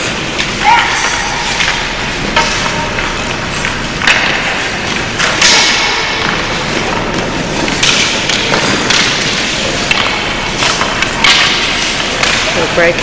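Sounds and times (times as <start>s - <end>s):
hockey sticks and puck knocking: 0.0s - 13.0s
skates scraping ice: 0.0s - 13.0s.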